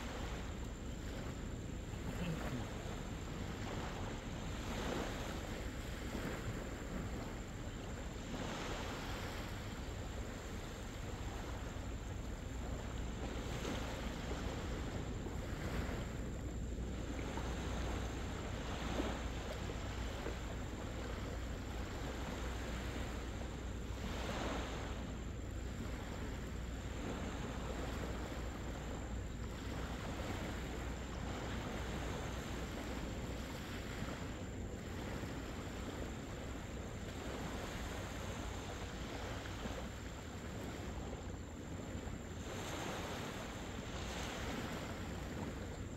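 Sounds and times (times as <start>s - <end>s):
low surf: 0.0s - 45.9s
small waves washing on beach: 0.0s - 45.9s
wind: 0.0s - 45.9s
wind rumbling on microphone: 0.0s - 45.9s.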